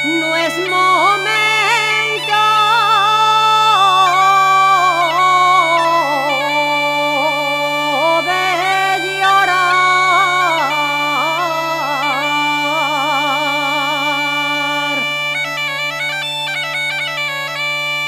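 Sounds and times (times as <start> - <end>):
bagpipe melody with drone: 0.0 - 18.0.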